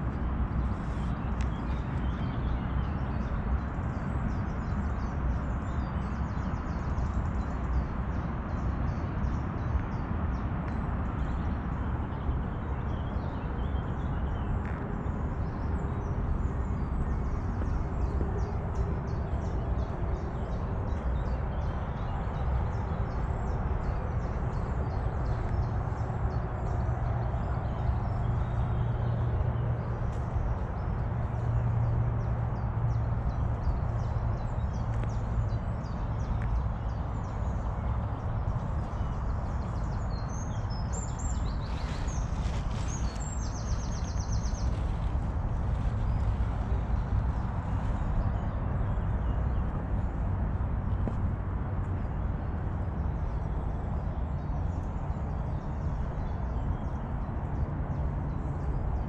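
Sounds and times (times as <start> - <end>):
small birds twittering: 0.0 - 49.8
low outdoor rumble: 0.0 - 59.0.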